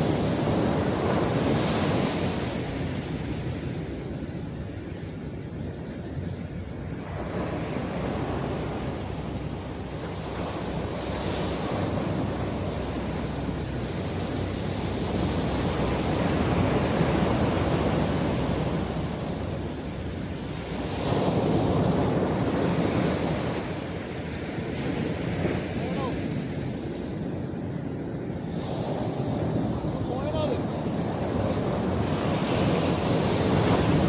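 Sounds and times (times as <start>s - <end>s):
sea waves breaking on shore: 0.0s - 34.0s
wind buffeting microphone: 0.0s - 34.0s.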